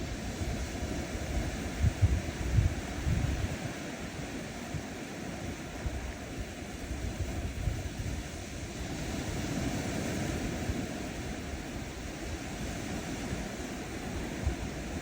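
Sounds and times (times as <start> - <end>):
ocean waves washing onto beach: 0.0 - 15.0.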